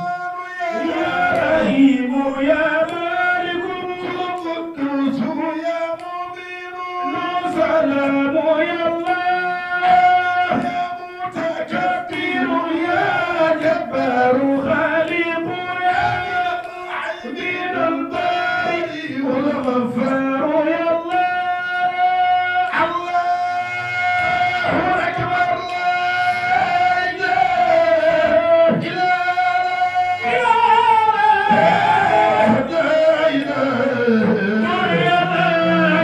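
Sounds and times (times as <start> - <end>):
man chanting into microphone: 0.0 - 36.0.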